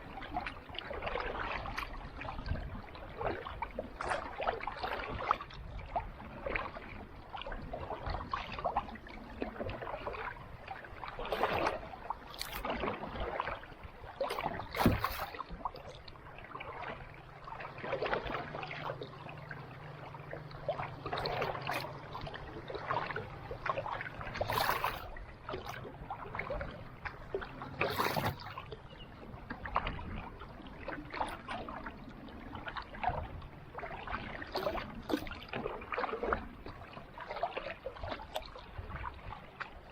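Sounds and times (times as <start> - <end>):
paddle swishes and splashes: 0.0 - 39.9.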